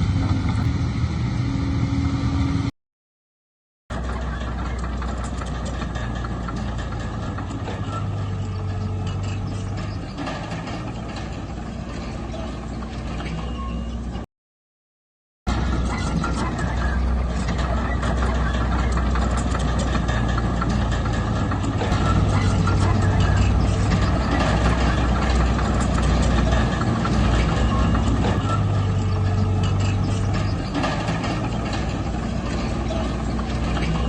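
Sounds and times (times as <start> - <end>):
diesel engine deep hum: 0.0 - 2.7, 3.9 - 14.2, 15.5 - 34.0.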